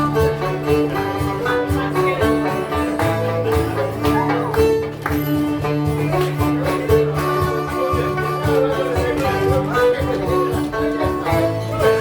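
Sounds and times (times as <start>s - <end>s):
acoustic guitar strumming: 0.0s - 12.0s
banjo picking: 0.0s - 12.0s.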